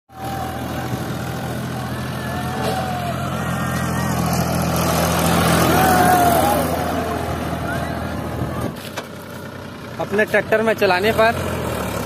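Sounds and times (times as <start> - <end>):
tractor engine running: 0.1 - 12.0.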